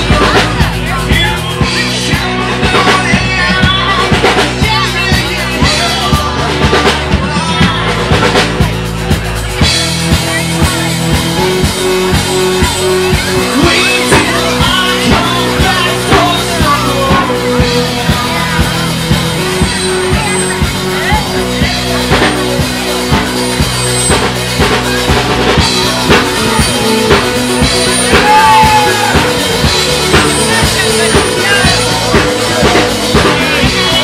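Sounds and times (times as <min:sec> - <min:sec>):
person singing: 0:00.0 - 0:08.8, 0:10.3 - 0:23.4, 0:25.6 - 0:34.0
bass: 0:00.0 - 0:34.0
drum kit beat: 0:00.0 - 0:34.0
rock music: 0:00.0 - 0:34.0.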